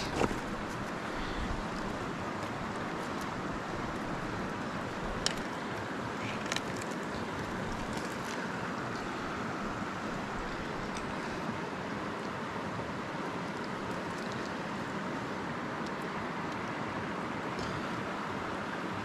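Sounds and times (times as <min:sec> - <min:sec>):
flowing river water: 0:00.0 - 0:19.0.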